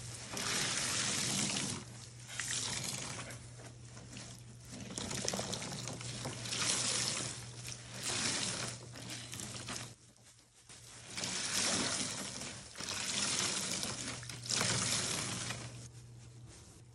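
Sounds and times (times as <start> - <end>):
soapy water pouring from sponge: 0.0 - 10.0, 10.7 - 15.9.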